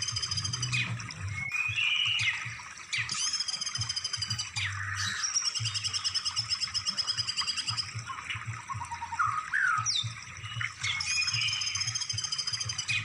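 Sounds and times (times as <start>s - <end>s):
songbird trilling and whistling: 0.0s - 13.0s.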